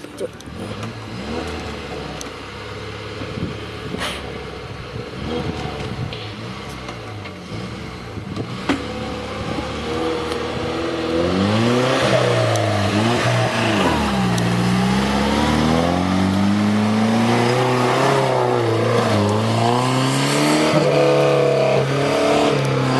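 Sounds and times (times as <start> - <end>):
engine revving: 0.0 - 22.9.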